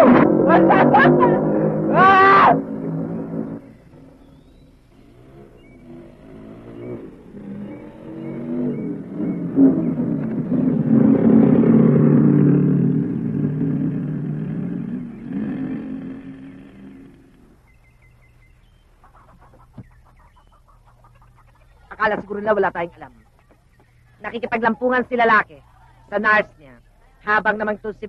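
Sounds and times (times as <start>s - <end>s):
motorcycle engine passing: 0.0s - 26.4s.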